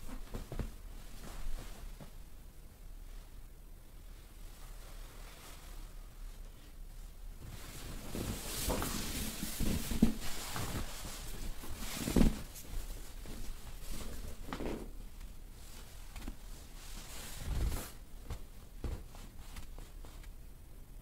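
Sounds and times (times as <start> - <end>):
clothing and sheets rustling: 0.0 - 20.5.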